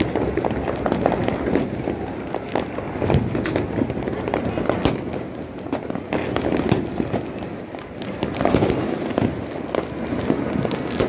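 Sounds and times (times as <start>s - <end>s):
continuous firecracker crackle: 0.0s - 11.0s
fireworks cracking and banging: 0.0s - 11.0s.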